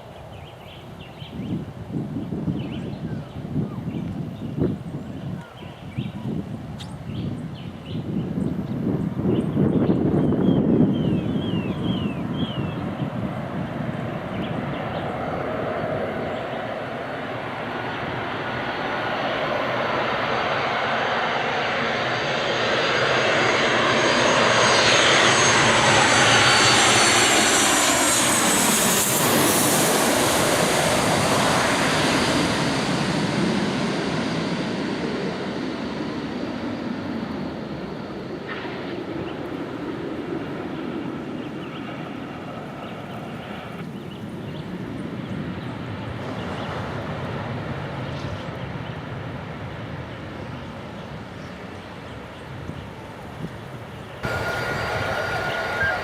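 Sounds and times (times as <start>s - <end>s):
airplane engines passing: 0.0s - 56.0s.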